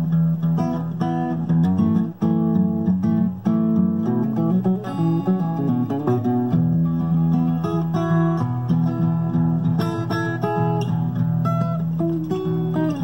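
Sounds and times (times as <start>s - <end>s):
fingerstyle acoustic guitar: 0.0s - 13.0s.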